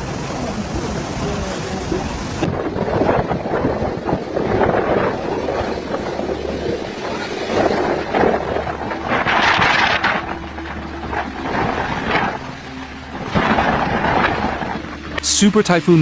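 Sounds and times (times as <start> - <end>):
wind and rain on microphone: 0.0 - 16.0.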